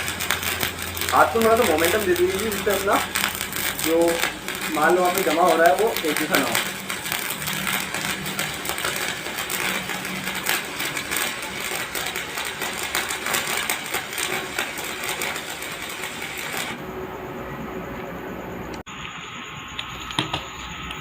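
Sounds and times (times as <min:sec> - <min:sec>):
welding arc crackling and sizzling: 0:00.0 - 0:16.8, 0:18.6 - 0:21.0.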